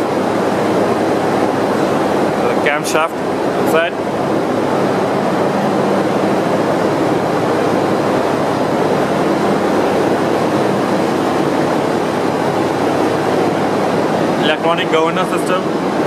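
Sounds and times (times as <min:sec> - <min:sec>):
engine room machinery din: 0:00.0 - 0:16.0
low hum: 0:00.0 - 0:16.0.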